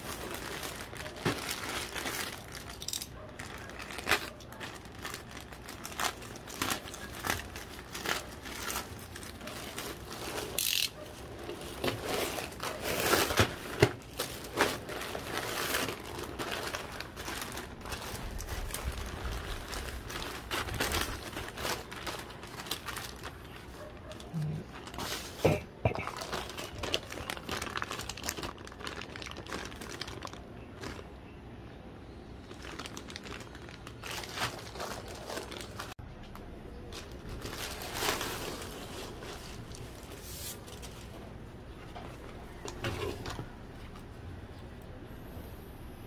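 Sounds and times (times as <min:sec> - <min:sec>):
plastic bags crinkling: 0:00.0 - 0:31.4, 0:32.3 - 0:44.0.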